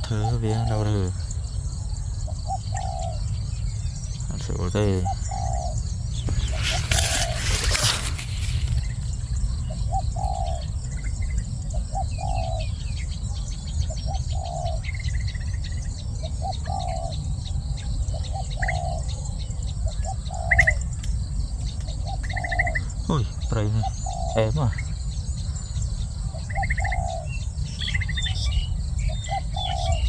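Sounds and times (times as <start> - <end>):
dove cooing: 0.0 - 20.9, 21.9 - 30.0
small birds chirping: 0.0 - 30.0.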